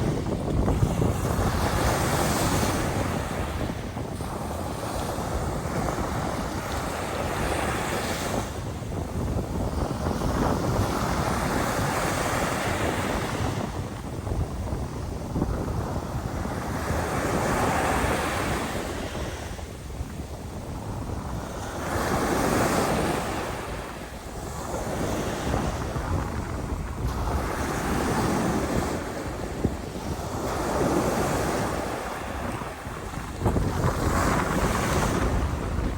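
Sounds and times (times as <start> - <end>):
sea waves washing on shore: 0.0 - 35.9
wind buffeting microphone: 0.0 - 35.9.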